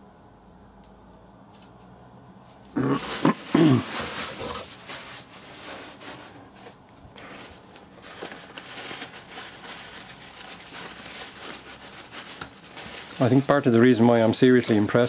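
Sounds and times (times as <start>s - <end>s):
paper wrapping rustling: 2.4s - 15.0s.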